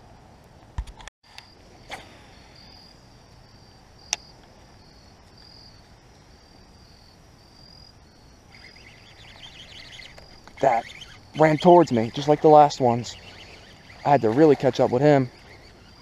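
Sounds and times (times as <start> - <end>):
insects chirping: 1.3 - 16.0
low buzzing insect: 1.4 - 16.0.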